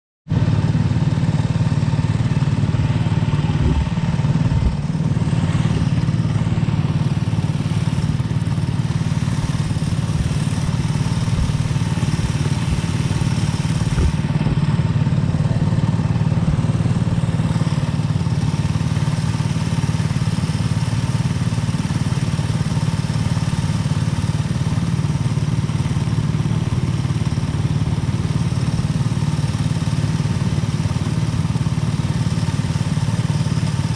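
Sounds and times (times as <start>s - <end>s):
kart engine running: 0.3s - 33.9s.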